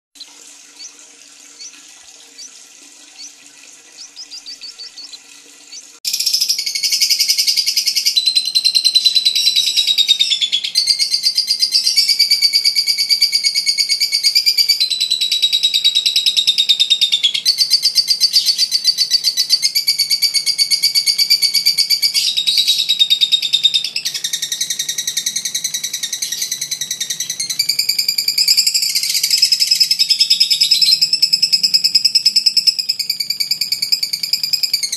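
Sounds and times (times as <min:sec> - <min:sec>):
lovebird chirps: 0:04.0 - 0:16.2, 0:16.8 - 0:34.9.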